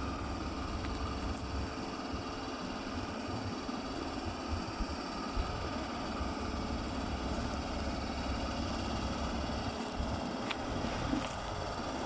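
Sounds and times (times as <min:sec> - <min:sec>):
locomotive machinery humming: 0:00.0 - 0:12.0.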